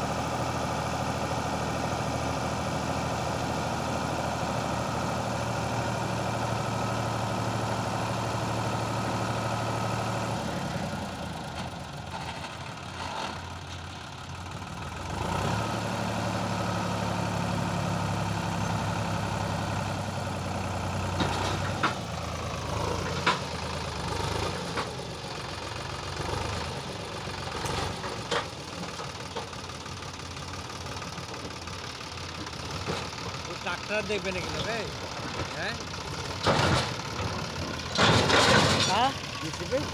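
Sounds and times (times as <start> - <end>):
tractor diesel engine revving: 0.0 - 39.9.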